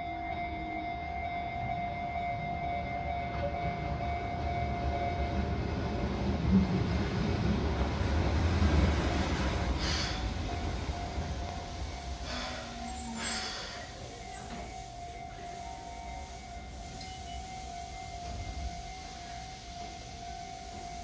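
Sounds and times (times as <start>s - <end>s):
train wheels rumbling: 2.6s - 21.0s.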